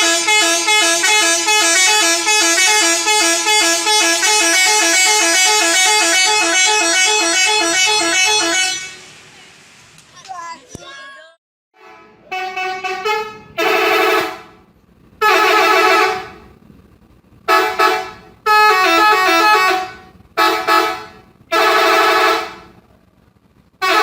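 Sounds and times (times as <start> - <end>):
bus musical horn playing a tune: 0.0 - 9.2, 11.8 - 16.5, 17.5 - 22.8, 23.8 - 24.0.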